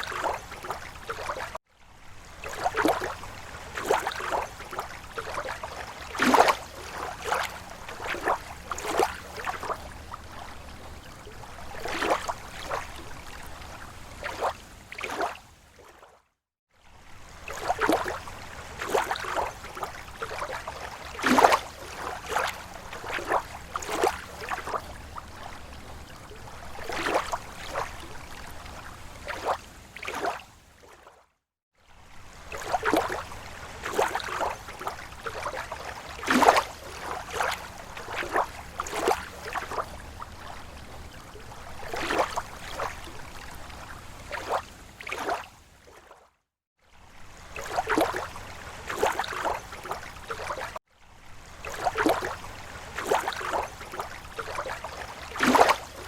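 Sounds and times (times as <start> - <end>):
small waves lapping on shore: 0.0 - 56.0.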